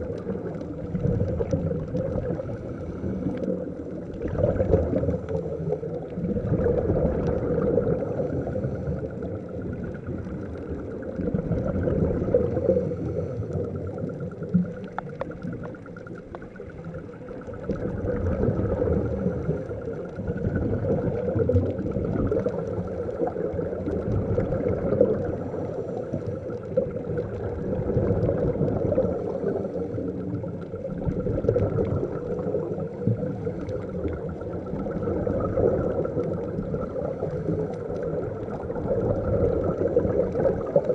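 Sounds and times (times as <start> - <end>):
underwater bubbling and rumble: 0.0 - 40.9.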